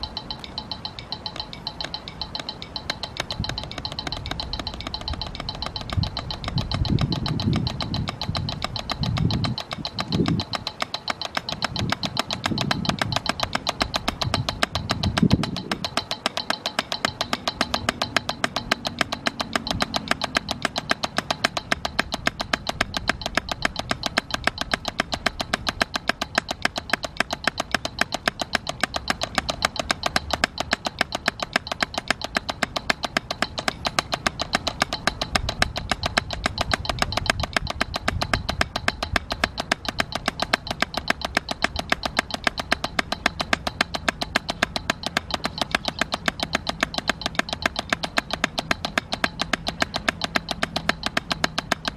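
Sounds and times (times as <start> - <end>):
drumsticks striking a practice pad: 0.0 - 51.9.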